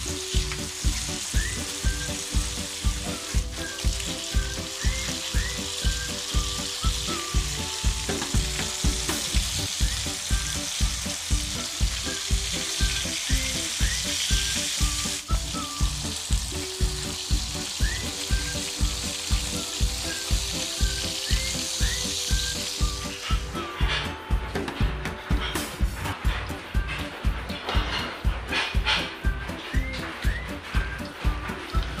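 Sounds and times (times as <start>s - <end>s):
background music with a beat: 0.0s - 32.0s
chicken sizzling in hot oil: 0.0s - 32.0s.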